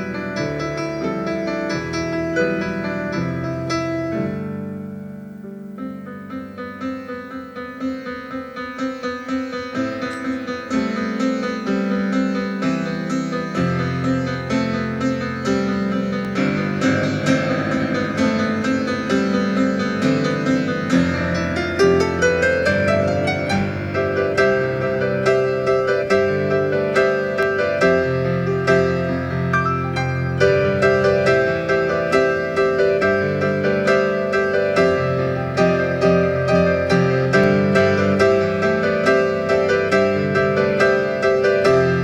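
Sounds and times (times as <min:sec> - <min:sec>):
slow piano piece: 0:00.0 - 0:42.0.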